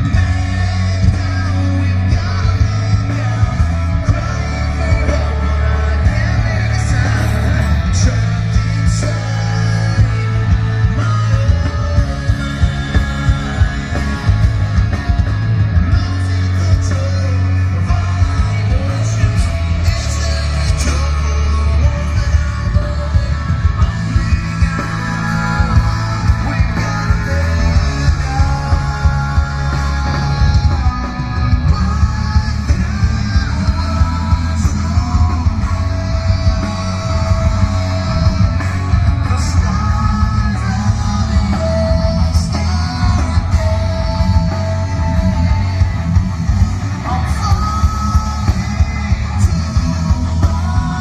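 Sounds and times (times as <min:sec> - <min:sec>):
live rock band: 0:00.0 - 0:51.0
person singing: 0:00.0 - 0:51.0.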